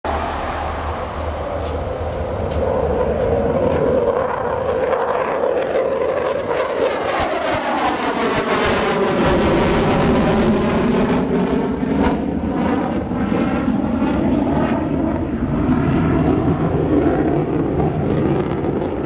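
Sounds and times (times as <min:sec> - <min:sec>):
jet engines roaring overhead: 0:00.0 - 0:19.0
harsh jet crackle: 0:00.1 - 0:19.0.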